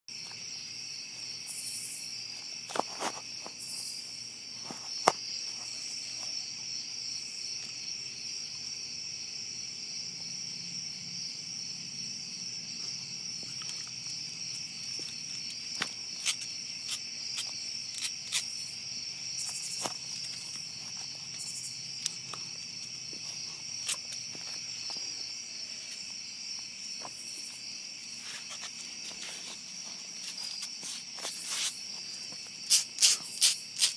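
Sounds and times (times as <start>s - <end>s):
cricket trilling: 0.1s - 33.9s.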